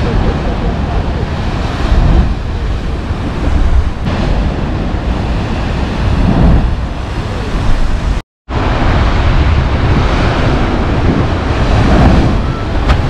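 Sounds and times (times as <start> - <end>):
ocean surf crashing into rocks: 0.0 - 13.0
wind rumble on microphone: 0.0 - 13.0.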